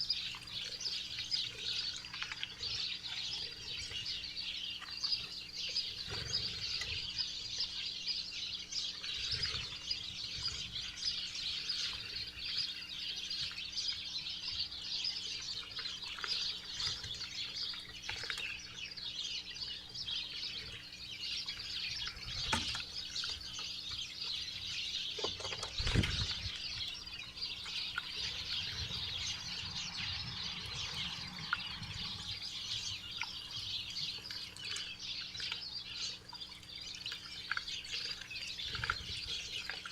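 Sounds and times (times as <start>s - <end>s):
faint steady hum: 0.0s - 39.9s
songbirds chirping: 0.0s - 39.9s.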